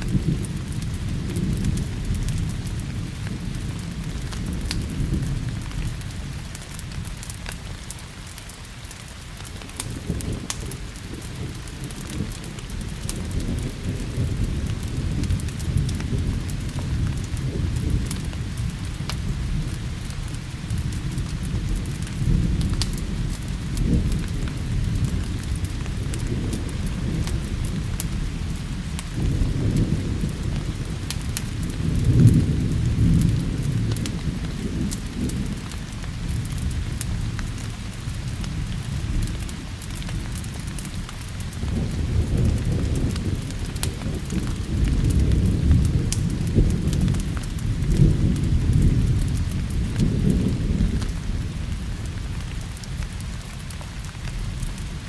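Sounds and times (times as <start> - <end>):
rolling thunder: 0.0 - 7.9, 9.4 - 55.0
steady rain: 0.0 - 55.0.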